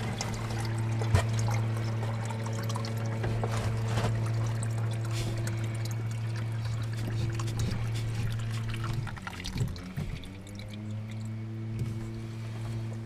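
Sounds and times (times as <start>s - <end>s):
steady low hum: 0.0s - 13.0s
water pouring from hose fittings: 0.0s - 13.0s.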